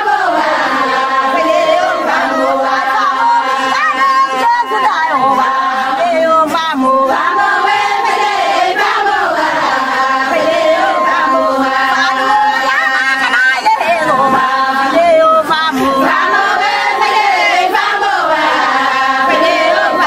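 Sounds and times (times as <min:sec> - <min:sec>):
voices singing over music: 0:00.0 - 0:20.0
steady held tones: 0:00.1 - 0:20.0.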